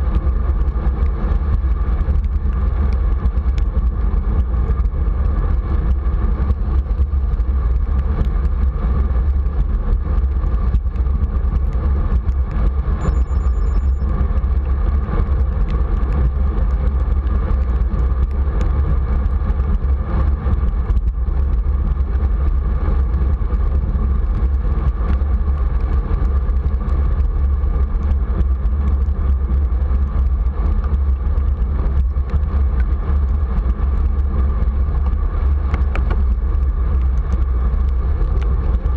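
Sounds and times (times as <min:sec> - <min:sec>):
bicycle tyres on wet asphalt: 0:00.0 - 0:38.9
wind rumble on microphone: 0:00.0 - 0:38.9.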